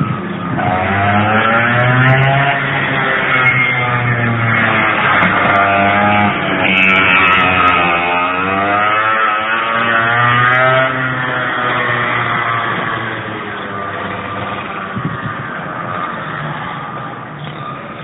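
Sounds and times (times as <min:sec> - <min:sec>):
two-stroke kart engine running: 0:00.0 - 0:18.0.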